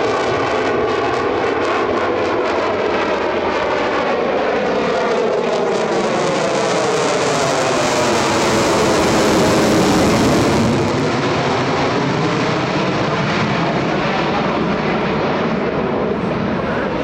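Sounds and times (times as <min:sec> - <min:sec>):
fighter jet engine roaring: 0:00.0 - 0:17.0.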